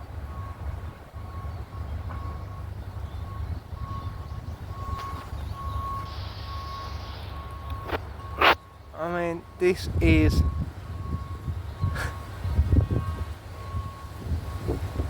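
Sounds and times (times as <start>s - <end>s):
wind buffeting microphone: 0.0s - 8.5s, 9.4s - 15.0s
reversing alarm beeping: 0.0s - 15.0s.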